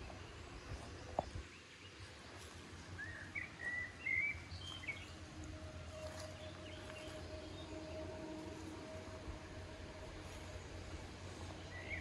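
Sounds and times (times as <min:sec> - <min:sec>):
faint steady hum: 0:00.0 - 0:12.0
outdoor background noise: 0:00.0 - 0:12.0
songbird chirping: 0:00.0 - 0:12.0.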